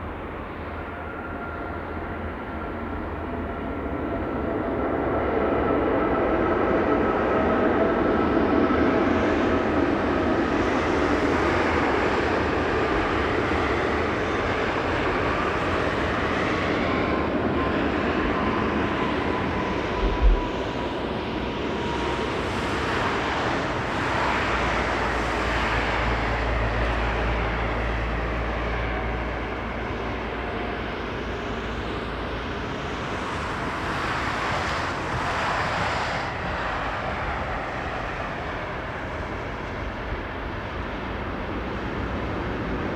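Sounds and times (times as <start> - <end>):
jet engines roaring: 0.0 - 42.9.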